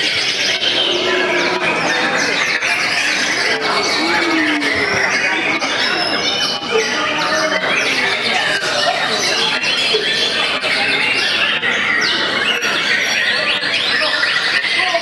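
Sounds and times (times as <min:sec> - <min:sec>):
birds singing in chorus: 0:00.0 - 0:15.0.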